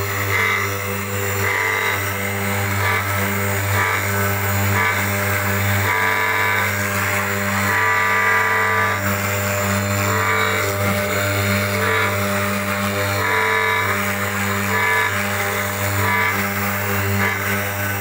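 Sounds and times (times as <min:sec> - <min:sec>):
router spindle carving wood: 0:00.0 - 0:18.0.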